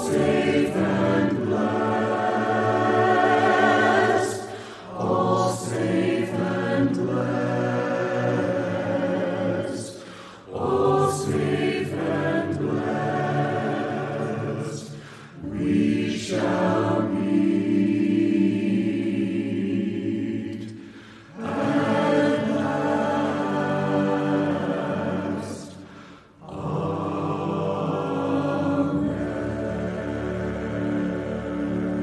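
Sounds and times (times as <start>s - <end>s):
choir singing a hymn: 0.0s - 32.0s.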